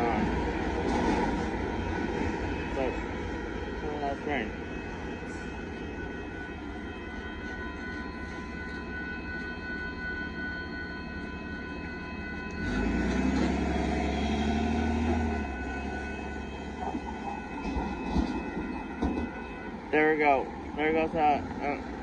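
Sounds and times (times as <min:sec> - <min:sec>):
railroad crossing bell ringing: 0:00.0 - 0:22.0.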